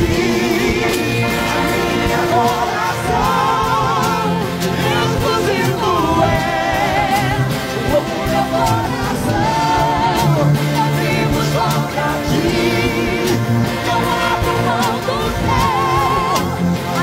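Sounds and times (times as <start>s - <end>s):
bass line: 0.0s - 17.0s
woman singing: 2.0s - 17.0s.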